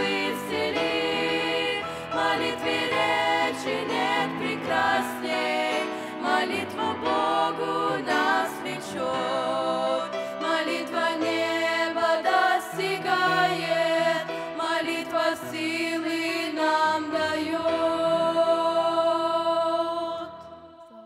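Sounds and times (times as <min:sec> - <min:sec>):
women singing a hymn in harmony: 0:00.0 - 0:21.0.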